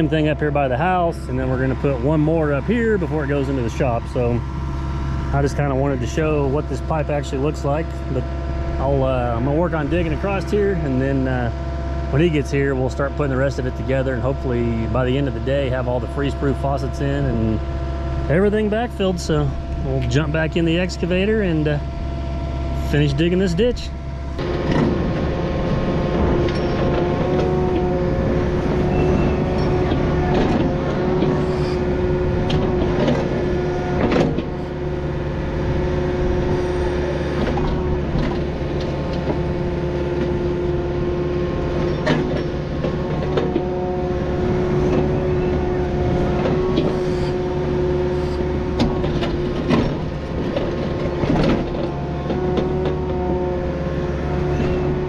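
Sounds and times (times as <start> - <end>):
diesel engine running under load: 0.0 - 55.0
engine whine: 0.0 - 55.0.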